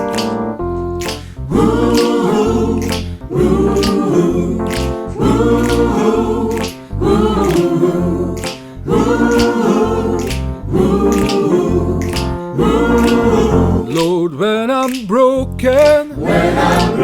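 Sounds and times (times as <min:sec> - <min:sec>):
a cappella vocal ensemble singing: 0:01.1 - 0:14.4, 0:15.8 - 0:17.0.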